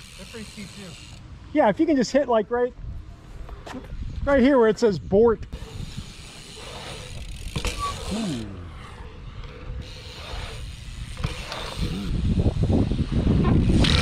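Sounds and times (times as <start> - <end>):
bike tyres rolling on concrete: 0.0 - 2.4, 3.2 - 14.0.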